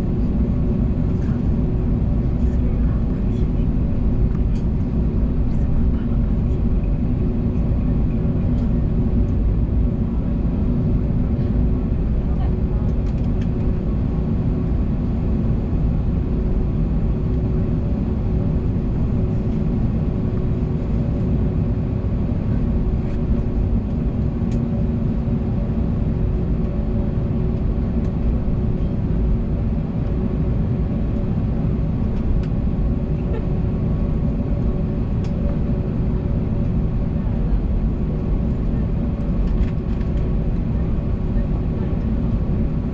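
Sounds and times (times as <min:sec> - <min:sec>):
plane engines idling: 0:00.0 - 0:42.9
steady hum tones: 0:00.0 - 0:42.9.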